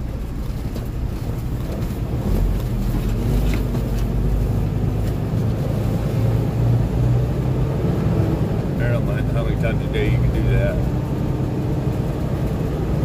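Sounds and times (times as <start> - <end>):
diesel truck engine droning: 0.0 - 13.0
road noise: 0.0 - 13.0.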